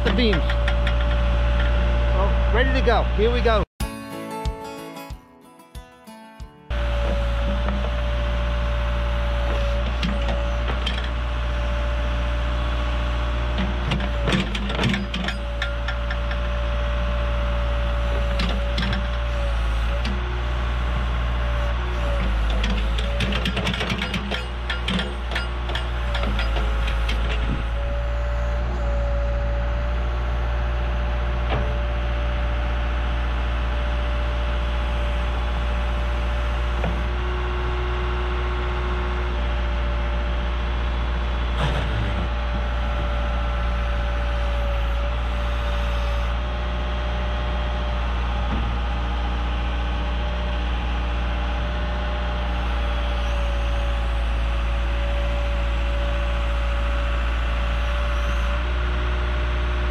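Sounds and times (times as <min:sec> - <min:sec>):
backhoe engine running: 0:00.0 - 0:03.7, 0:06.7 - 0:59.9.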